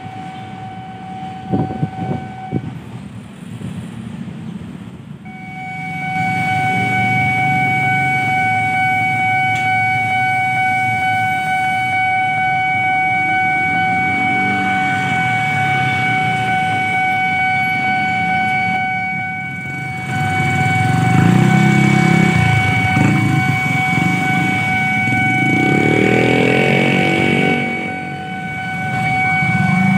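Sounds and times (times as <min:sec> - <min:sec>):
level crossing alarm tone: 0:00.0 - 0:02.9, 0:05.2 - 0:29.9
engine and traffic rumble: 0:00.0 - 0:29.9.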